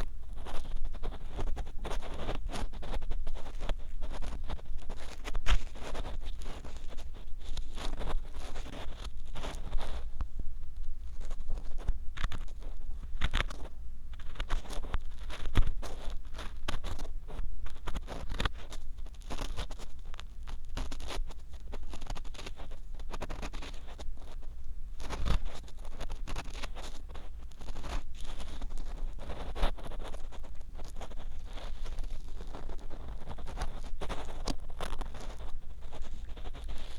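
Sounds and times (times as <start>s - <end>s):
ear pick scratching microphone: 0.0s - 36.9s.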